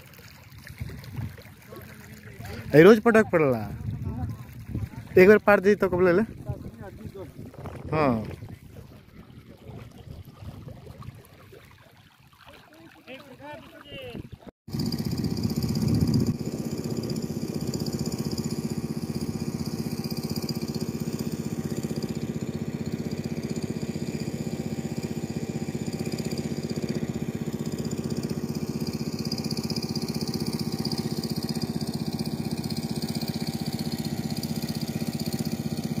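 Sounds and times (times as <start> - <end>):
water pump engine running: 0.0 - 36.0.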